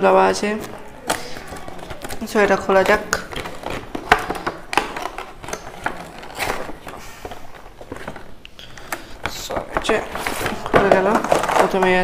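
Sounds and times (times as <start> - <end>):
cardboard rustling and scraping: 0.4 - 12.0.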